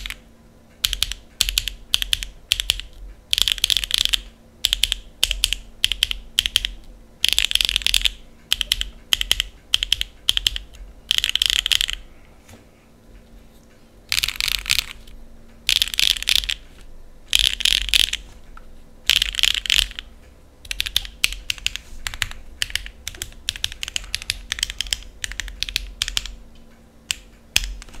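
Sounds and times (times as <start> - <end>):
keyboard typing: 0.8 - 12.0, 14.1 - 18.3, 19.1 - 26.4, 27.1 - 28.0.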